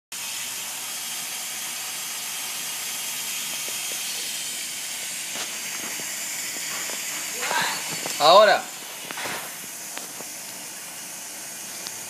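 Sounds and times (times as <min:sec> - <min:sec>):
steady hiss of leaking water: 0:00.2 - 0:12.0.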